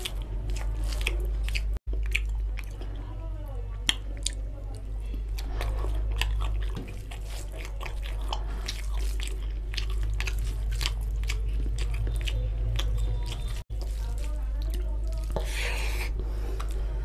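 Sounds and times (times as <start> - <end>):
wet chewing mouth clicks: 0.0 - 3.0, 3.8 - 16.8
steady low hum: 0.0 - 17.0.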